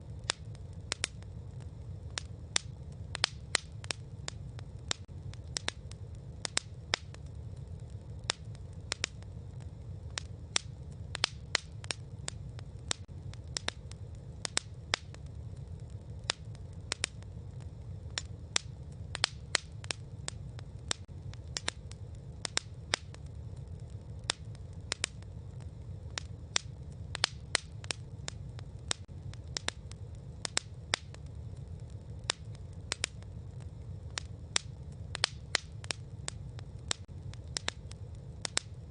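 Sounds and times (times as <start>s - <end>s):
campfire crackling and popping: 0.0s - 38.9s
low rumble: 0.0s - 38.9s.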